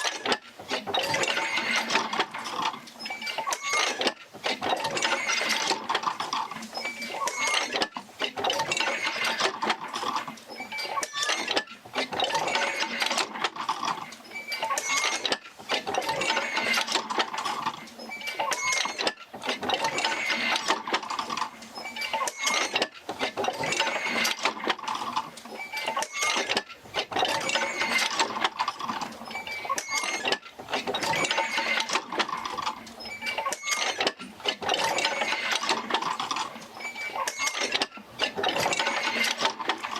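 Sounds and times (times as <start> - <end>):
wooden wheel creaking and knocking: 0.0 - 39.9.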